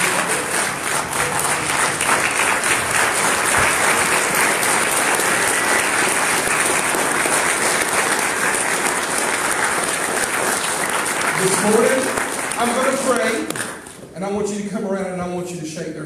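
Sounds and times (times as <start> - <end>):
congregation applauding: 0.0 - 14.0.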